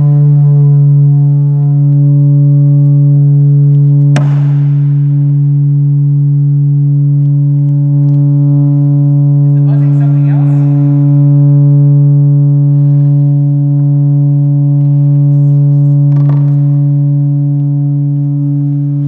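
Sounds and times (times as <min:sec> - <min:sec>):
loud low sine tone: 0:00.0 - 0:19.0.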